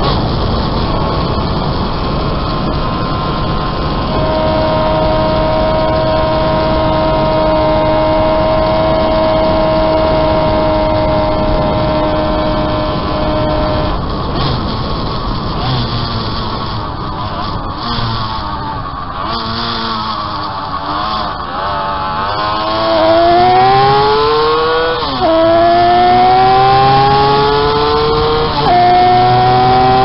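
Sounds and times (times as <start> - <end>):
motorcycle engine at high revs: 0.0 - 30.0
wind rush: 0.0 - 30.0.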